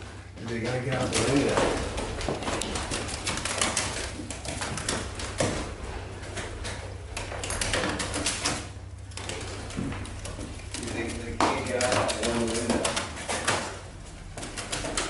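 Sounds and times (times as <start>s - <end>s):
pigeon wings beating on window: 0.5s - 15.0s.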